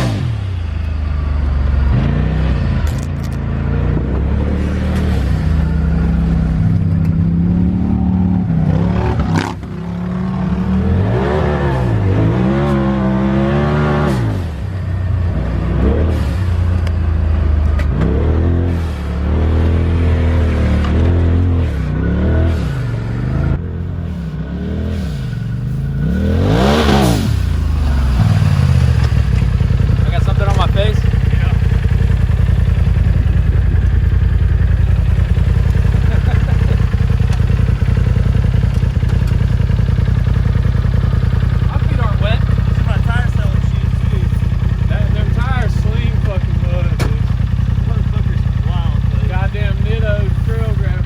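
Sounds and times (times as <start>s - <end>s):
utility vehicle engine revving: 0.0s - 51.0s.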